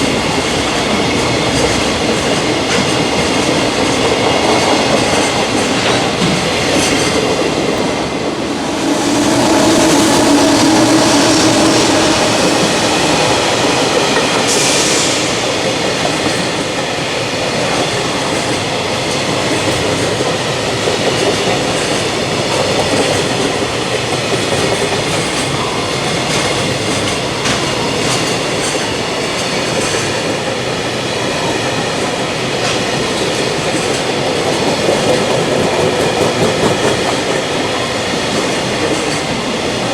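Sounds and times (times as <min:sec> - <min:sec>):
train wagons rumbling on rails: 0:00.0 - 0:39.9.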